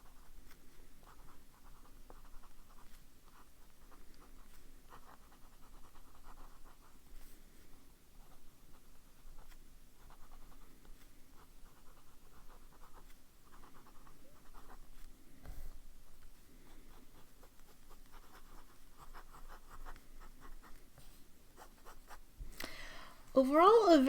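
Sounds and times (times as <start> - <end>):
fountain pen writing on paper: 0.0 - 21.0, 21.6 - 22.2.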